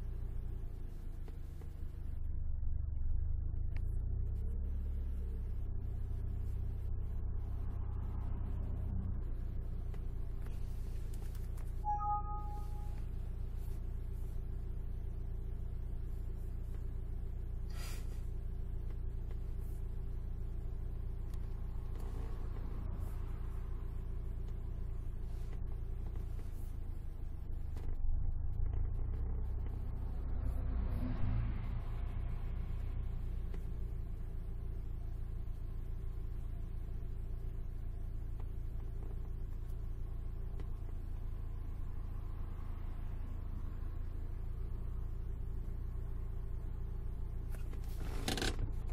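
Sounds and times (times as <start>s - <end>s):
car engine and road hum: 0.0s - 48.9s.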